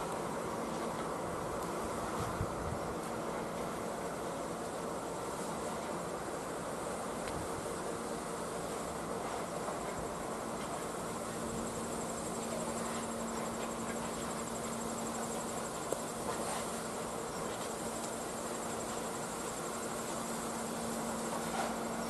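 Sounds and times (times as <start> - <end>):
insects chirping: 0.0 - 22.0
steady low hum: 0.0 - 22.0.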